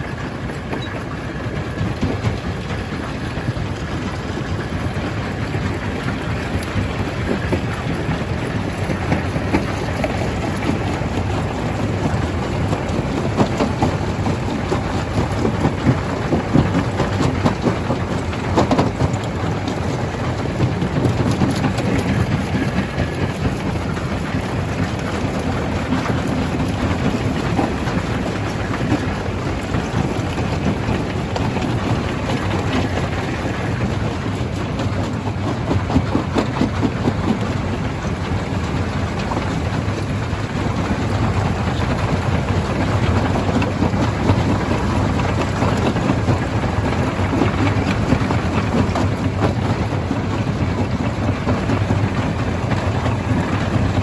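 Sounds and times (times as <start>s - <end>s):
low machine rumble: 0.0s - 54.0s.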